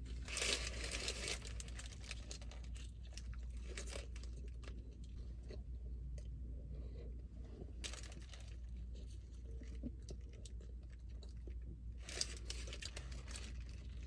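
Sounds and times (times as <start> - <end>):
chewing and crunching food: 0.0 - 14.0
steady low hum: 0.0 - 14.0.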